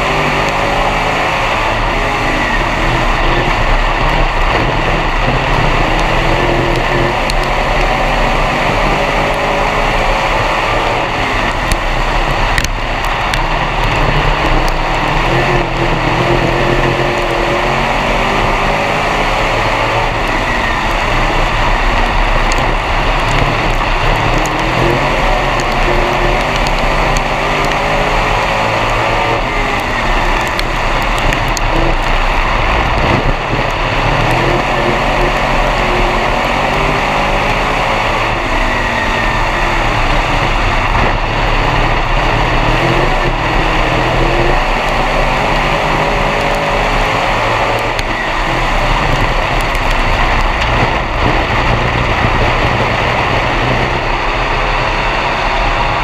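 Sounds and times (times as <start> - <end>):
race car engine running: 0.0 - 56.0
rattle and road noise: 0.0 - 56.0.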